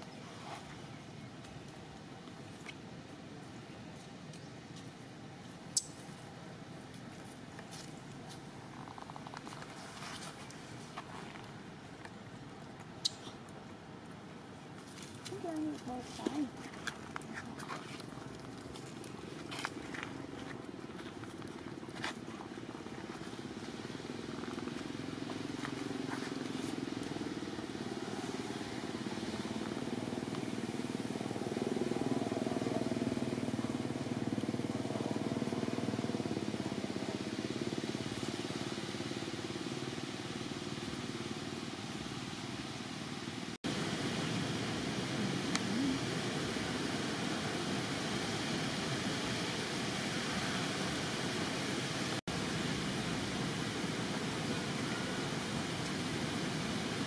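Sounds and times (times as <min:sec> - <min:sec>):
outdoor background noise: 0:00.0 - 0:57.0.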